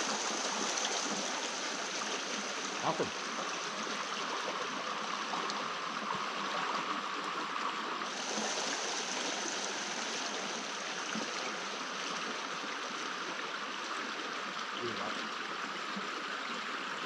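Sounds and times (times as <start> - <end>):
creek running: 0.0 - 17.0.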